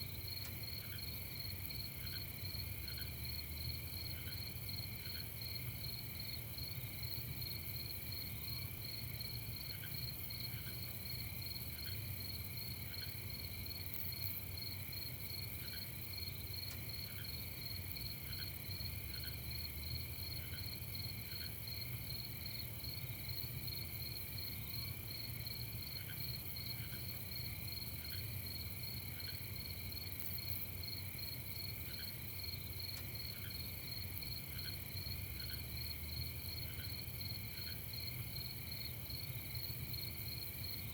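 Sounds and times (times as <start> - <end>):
slow low insect chirp: 0.0 - 40.9
crickets trilling: 0.1 - 40.9.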